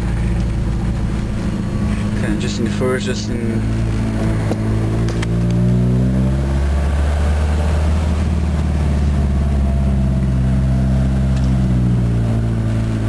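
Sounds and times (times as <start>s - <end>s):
loud car engine under load: 0.0s - 13.0s.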